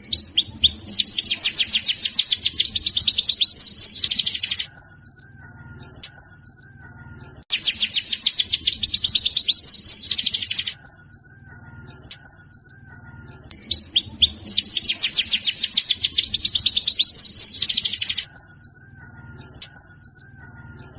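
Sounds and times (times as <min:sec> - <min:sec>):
bird chirps and trills: 0:00.0 - 0:20.9.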